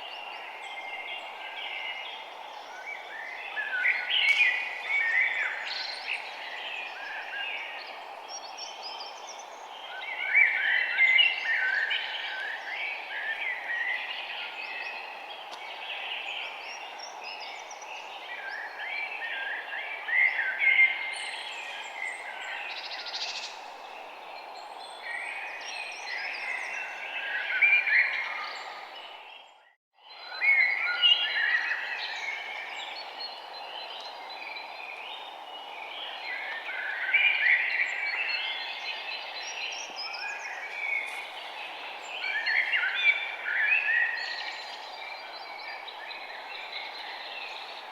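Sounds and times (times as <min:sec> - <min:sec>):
birds chirping and warbling: 0:00.0 - 0:47.9.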